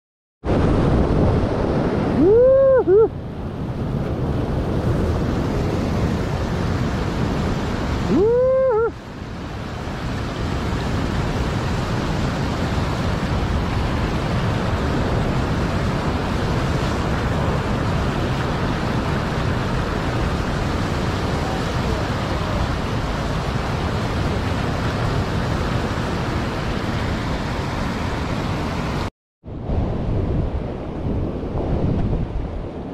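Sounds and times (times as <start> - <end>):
waves breaking over rocks: 0.5 - 29.1.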